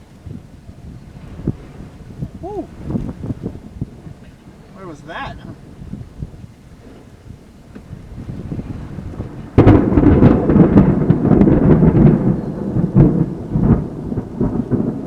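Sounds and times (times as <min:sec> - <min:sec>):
thunder crack and rumble: 0:00.0 - 0:15.0.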